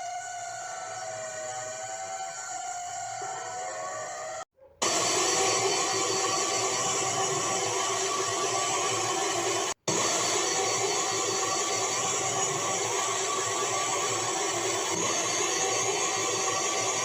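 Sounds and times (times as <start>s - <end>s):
siren at steady pitch: 0.0s - 17.0s.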